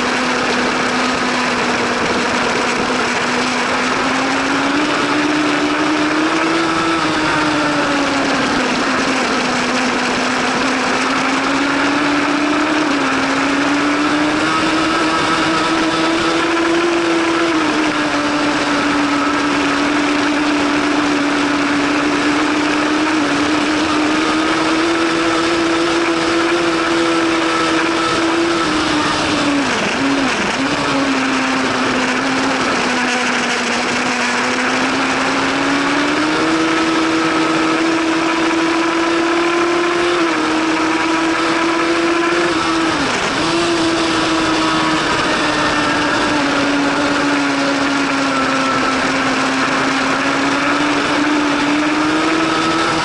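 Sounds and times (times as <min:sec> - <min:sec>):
motorcycle engine at high revs: 0:00.0 - 0:53.0
steady rush of noise: 0:00.0 - 0:53.0.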